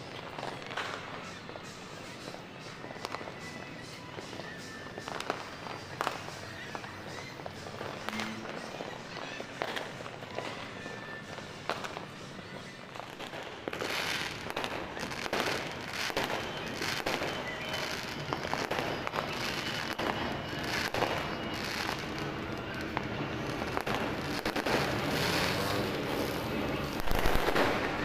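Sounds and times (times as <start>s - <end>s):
firecrackers crackling: 0.0s - 28.0s
fireworks popping and banging: 0.0s - 28.0s
fireworks whooshing: 0.0s - 28.0s.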